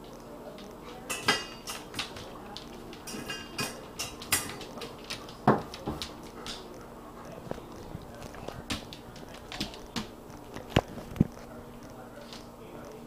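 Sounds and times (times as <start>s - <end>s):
dog claws clicking on tile: 1.6s - 12.5s.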